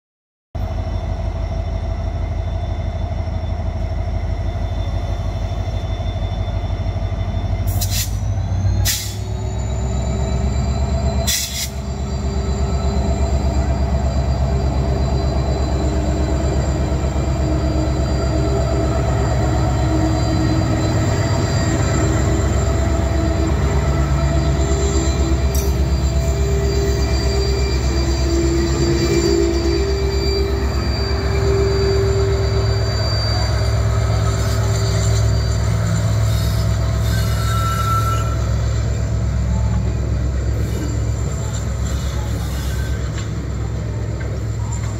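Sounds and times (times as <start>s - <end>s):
diesel locomotive engine throb: 0.6s - 44.9s.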